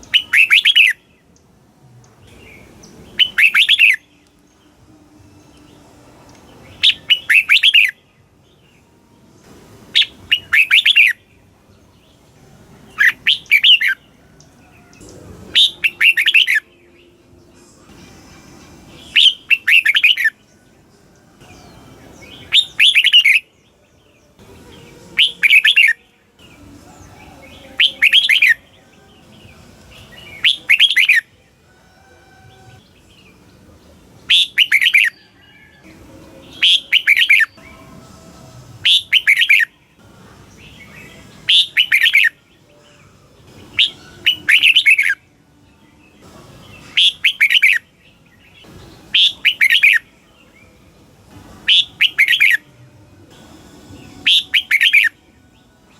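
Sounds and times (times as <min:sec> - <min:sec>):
bulbul singing warbling phrases: 0:00.0 - 0:31.6, 0:32.4 - 0:38.2, 0:38.8 - 0:55.9.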